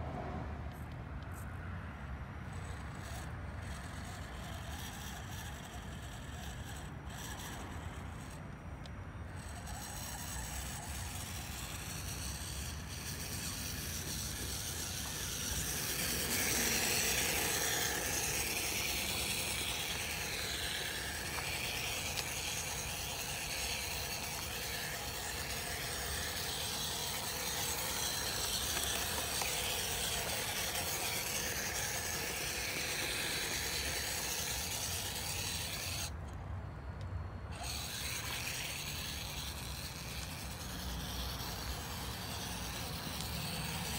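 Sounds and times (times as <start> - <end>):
rc car motor whining: 2.3 - 36.4, 37.4 - 43.9.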